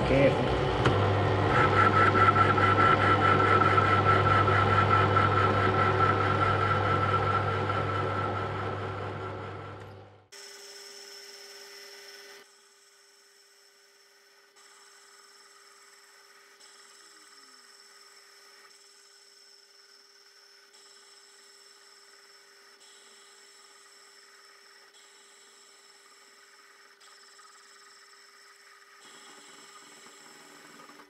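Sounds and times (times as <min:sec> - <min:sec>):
metal lathe hum and whine: 0:00.0 - 0:31.0.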